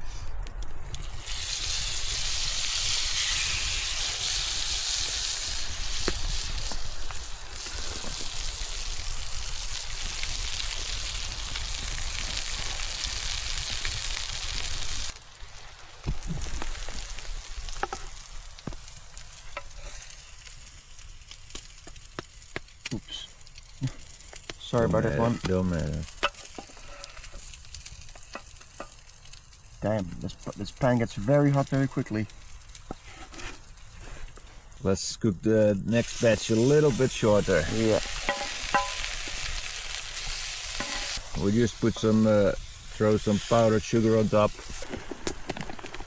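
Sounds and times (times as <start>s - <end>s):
sharp pops and crackles: 0.0s - 34.8s, 36.0s - 46.0s
food sizzling in a pan: 1.0s - 34.3s, 35.9s - 46.0s.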